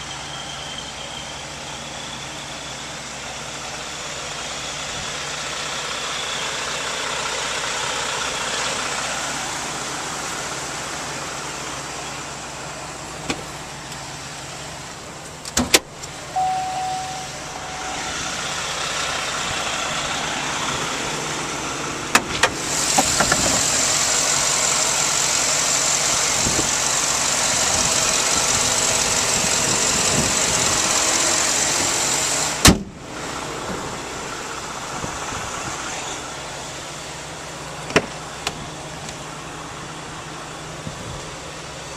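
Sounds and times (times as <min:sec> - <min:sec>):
motor vehicle noise: 0:00.0 - 0:41.9.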